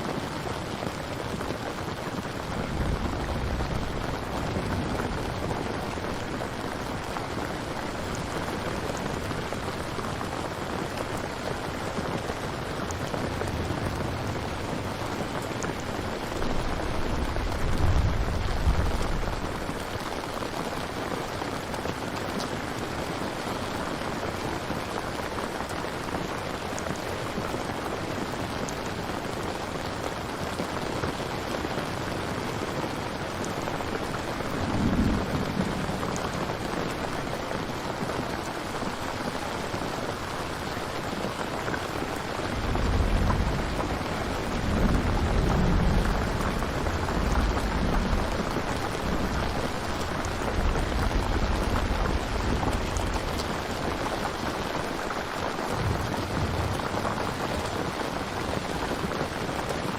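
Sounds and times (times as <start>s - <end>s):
steady rain: 0.0s - 59.9s
thunder rumbling: 0.1s - 21.0s, 31.9s - 59.6s.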